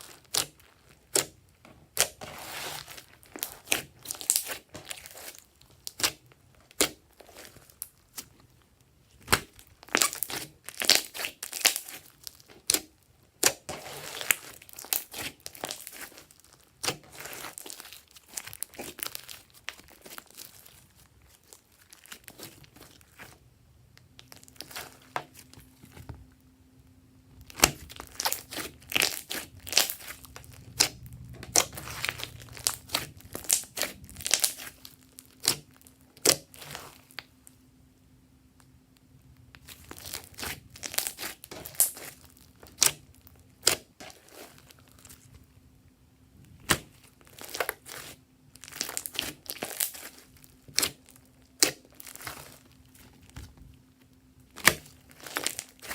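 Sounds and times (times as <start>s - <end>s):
slime squishing with crackling pops: 0.0s - 23.4s, 27.3s - 37.6s, 38.5s - 45.5s, 46.4s - 55.9s.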